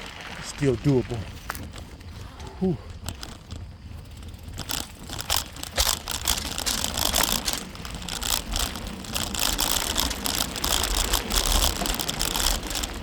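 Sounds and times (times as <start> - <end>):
bicycle rattling: 0.0 - 13.0
tyres crunching over gravel: 0.0 - 13.0.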